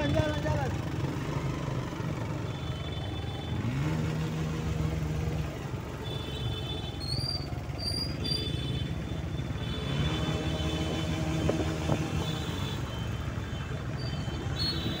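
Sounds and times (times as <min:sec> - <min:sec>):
vehicle engine rumbling at low revs: 0:00.0 - 0:15.0.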